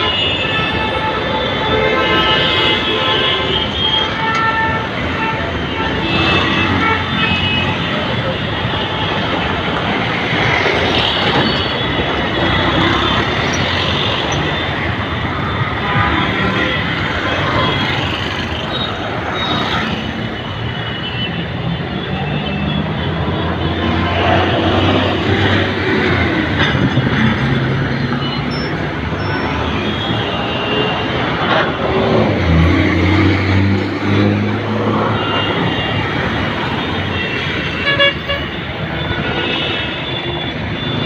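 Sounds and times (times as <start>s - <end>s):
vehicle horns tooting: 0.0s - 26.9s, 34.0s - 41.0s
heavy road traffic engines: 0.0s - 41.0s.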